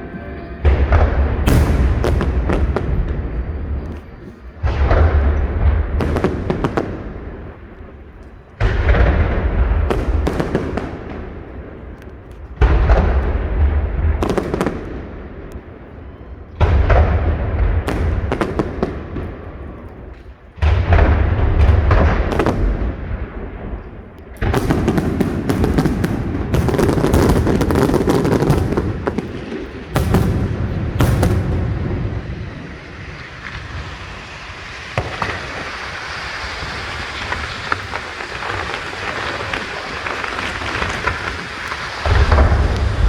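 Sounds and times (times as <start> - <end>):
fireworks booms and bursts: 0.0 - 43.0
fireworks crackle: 0.0 - 43.0.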